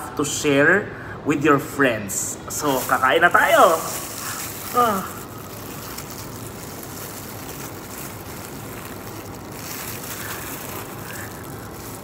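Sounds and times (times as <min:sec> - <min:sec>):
faint low hum: 0:00.0 - 0:12.0
room hiss: 0:00.0 - 0:12.0.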